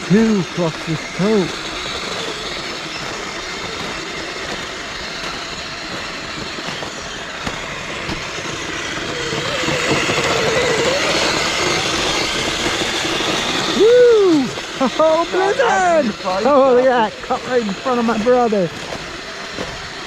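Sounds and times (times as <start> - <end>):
rc vehicle motors clattering and whirring: 0.0 - 20.0
wavering motor whine: 0.0 - 20.0.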